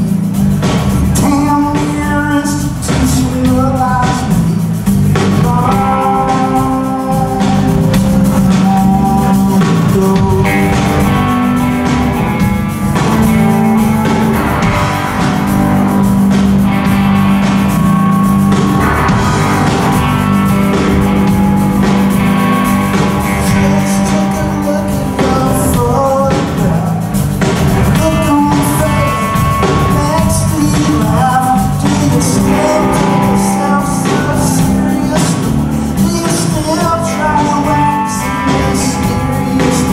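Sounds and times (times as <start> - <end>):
person singing lead vocal: 0.0 - 15.2, 19.2 - 39.9
drum kit: 0.0 - 39.9
electric bass: 0.0 - 39.9
electric guitars: 0.0 - 39.9
keyboard: 0.0 - 39.9.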